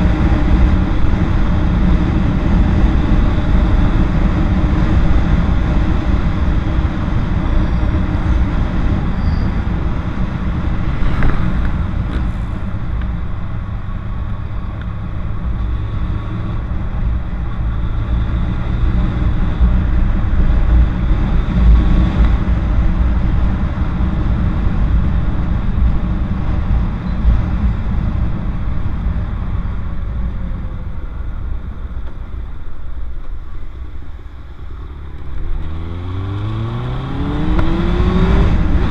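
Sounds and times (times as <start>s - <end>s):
wind rush on microphone: 0.0s - 34.2s, 35.3s - 38.9s
motorcycle engine cruising: 0.0s - 38.9s.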